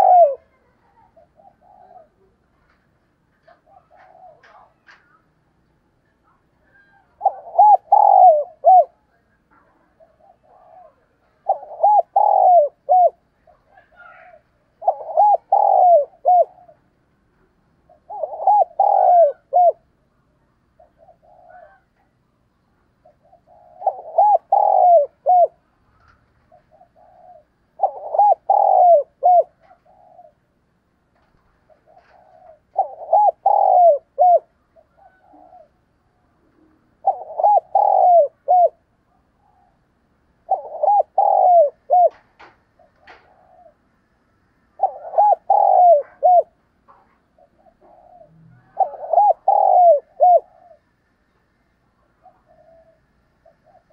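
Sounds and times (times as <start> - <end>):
dove cooing: 0.0 - 5.4, 6.2 - 22.2, 22.9 - 44.0, 44.6 - 53.9.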